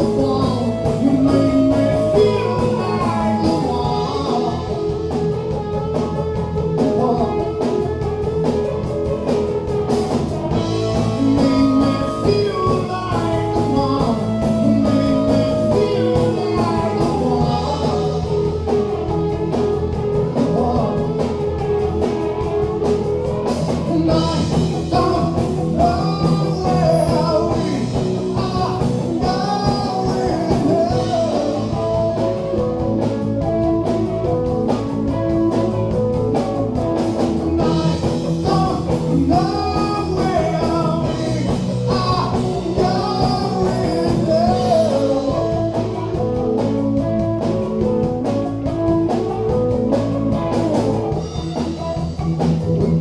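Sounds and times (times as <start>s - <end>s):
drum kit: 0.0s - 53.0s
electric guitars: 0.0s - 53.0s.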